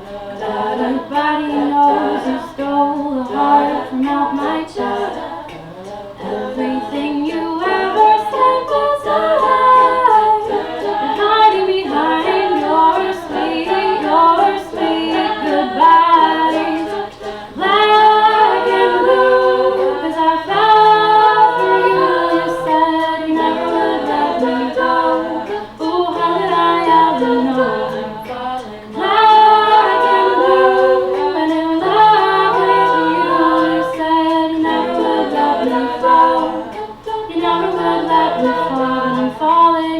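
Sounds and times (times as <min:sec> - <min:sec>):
backing voices holding chords: 0:00.0 - 0:39.9
woman singing lead: 0:00.0 - 0:39.9.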